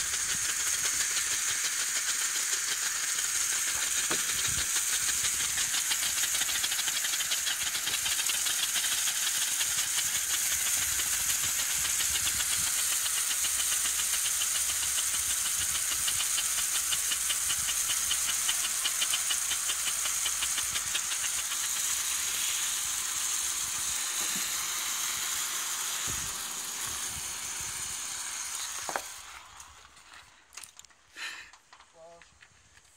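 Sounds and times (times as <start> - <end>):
flares hissing and sputtering: 0.0 - 32.5.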